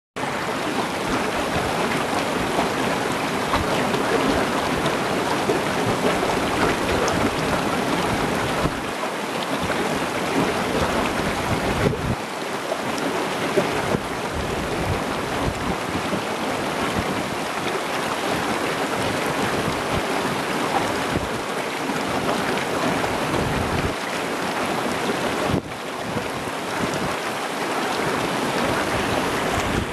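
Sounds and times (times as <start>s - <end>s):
river water rushing: 0.2s - 29.9s.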